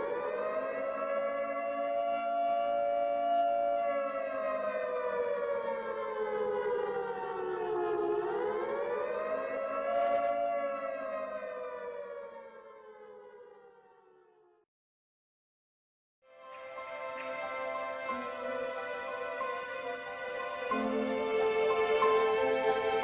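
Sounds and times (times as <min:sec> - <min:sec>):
siren wailing: 0:00.0 - 0:14.6, 0:16.6 - 0:23.0.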